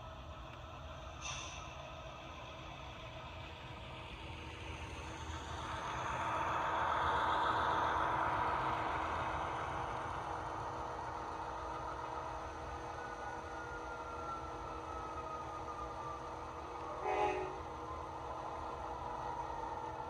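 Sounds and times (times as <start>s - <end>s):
model train diesel engine sound: 0.0s - 20.0s.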